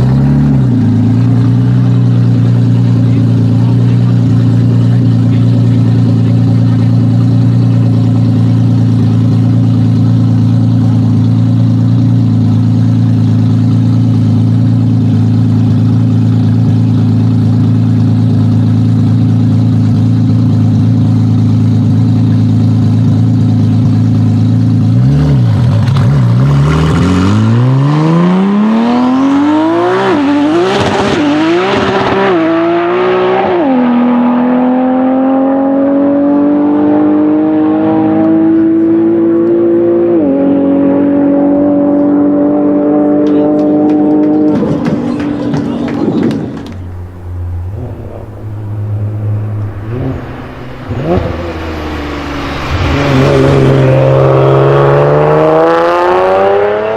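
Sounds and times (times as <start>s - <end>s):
car engine droning and revving: 0.0s - 56.9s.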